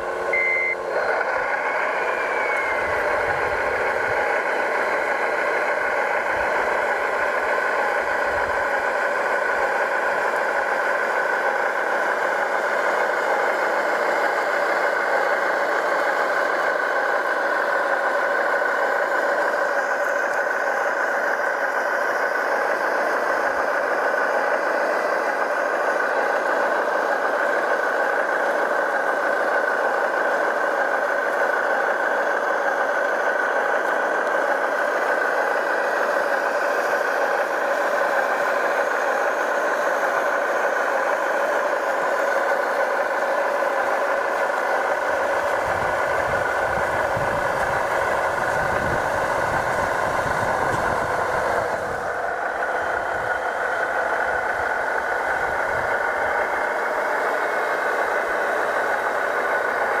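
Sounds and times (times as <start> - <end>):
model vehicle motor humming: 0.0 - 60.0.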